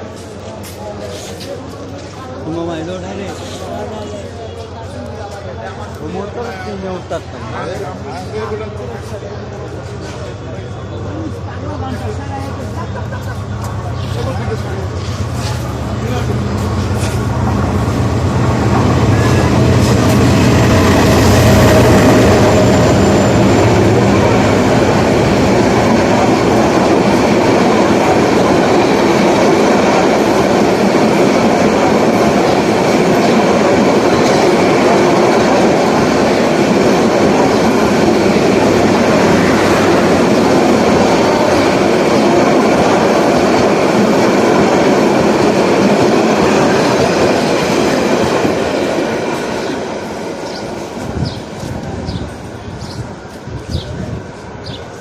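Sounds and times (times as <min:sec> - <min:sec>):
train cars rumbling over rails: 0:00.0 - 0:55.0
train engine hum: 0:00.0 - 0:55.0.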